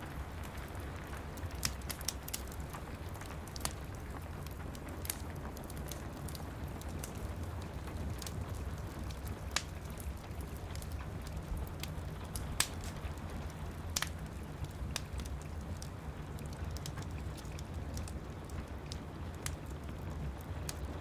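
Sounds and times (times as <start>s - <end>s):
rain: 0.0s - 21.0s
wood fire crackling: 0.0s - 21.0s.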